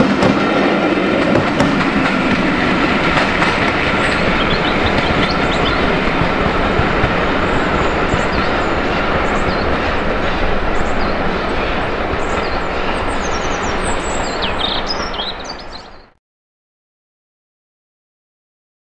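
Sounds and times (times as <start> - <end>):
train wheels rumbling on track: 0.0 - 16.2.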